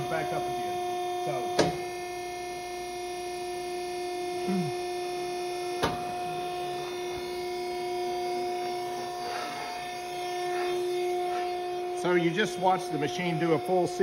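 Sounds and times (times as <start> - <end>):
pump motor humming: 0.0 - 14.0.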